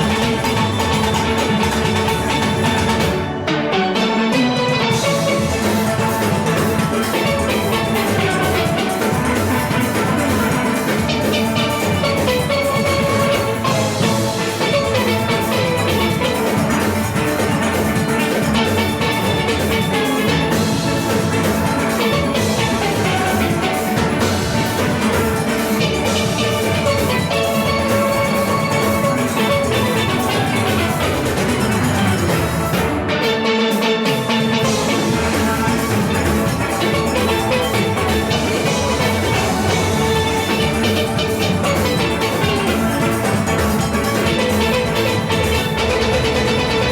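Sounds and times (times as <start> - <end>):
drum and percussion rhythm: 0.0 - 46.9
steelpans playing a busy tune: 0.0 - 46.9.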